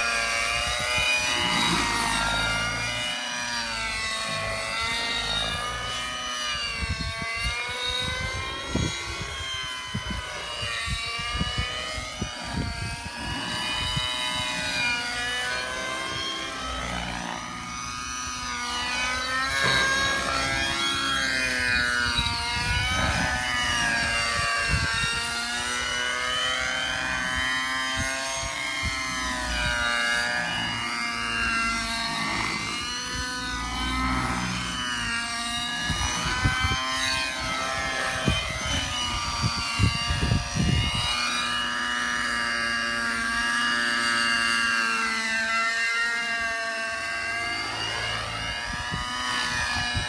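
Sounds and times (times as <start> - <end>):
model helicopter engine and rotors: 0.0 - 50.0.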